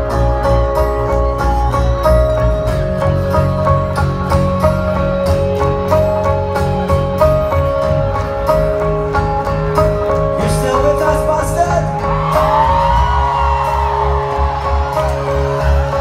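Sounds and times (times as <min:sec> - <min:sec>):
rock band playing instrumental: 0:00.0 - 0:16.0.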